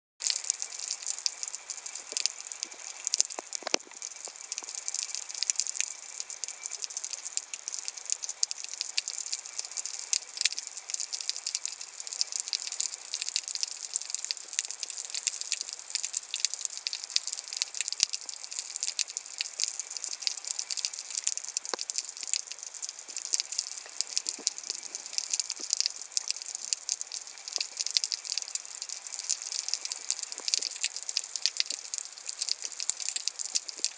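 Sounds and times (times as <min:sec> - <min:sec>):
underwater crackle of tiny clicks: 0:00.2 - 0:33.9.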